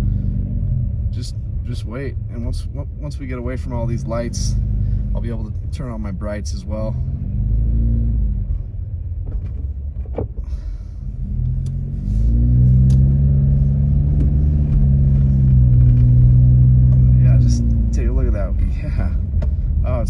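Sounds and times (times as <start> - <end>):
car engine from inside cabin: 0.0 - 20.0
road rumble: 0.0 - 20.0.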